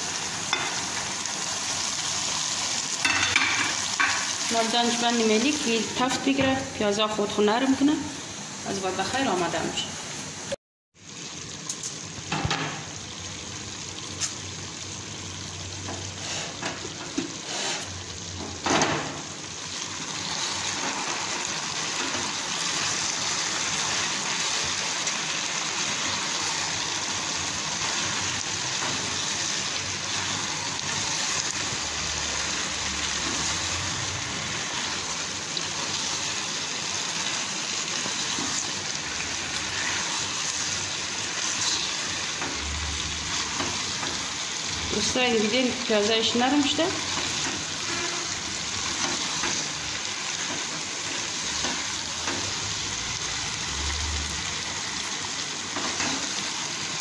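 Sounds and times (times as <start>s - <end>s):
chicken and onions sizzling: 0.0s - 57.0s.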